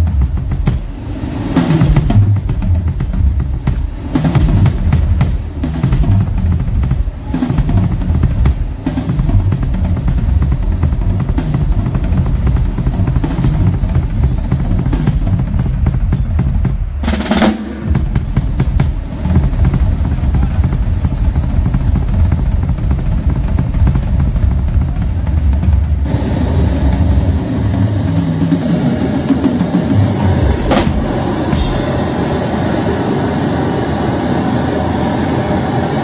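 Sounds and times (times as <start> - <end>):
cymbal crash: 0.0 - 15.4, 17.0 - 22.1, 26.0 - 36.0
bass drum and snare hits: 0.0 - 32.4.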